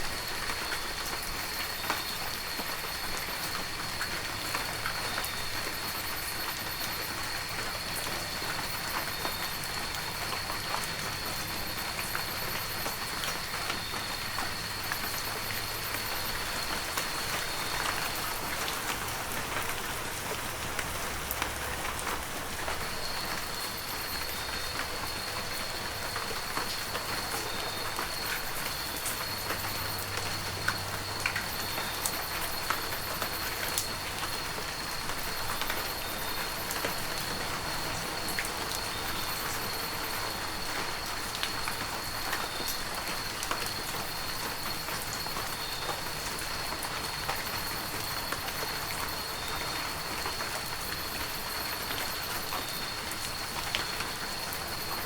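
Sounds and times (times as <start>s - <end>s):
heavy rain: 0.0s - 55.0s
raindrops striking close by: 0.0s - 55.0s.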